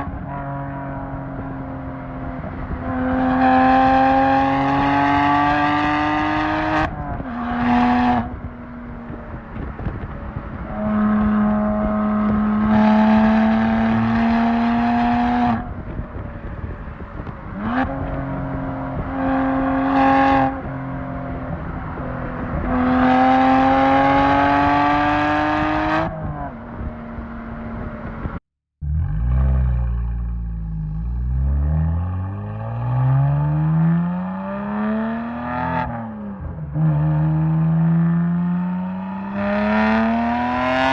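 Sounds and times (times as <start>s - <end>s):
car engine revving through gears: 0.0s - 40.9s.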